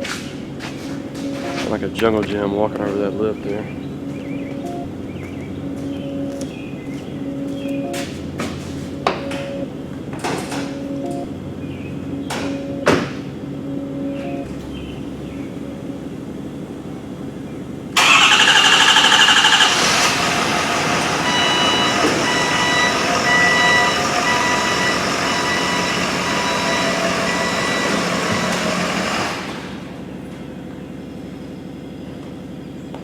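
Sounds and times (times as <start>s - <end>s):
diesel truck engine starting: 0.0s - 33.0s.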